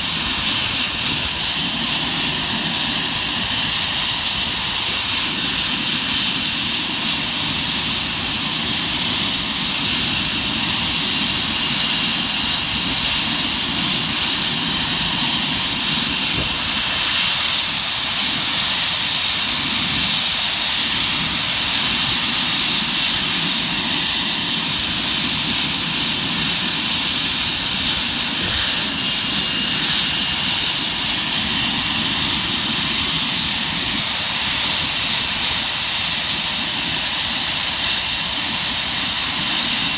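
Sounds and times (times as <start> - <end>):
high-pitched turbine whine: 0.0 - 39.9
jet engines running: 0.0 - 39.9.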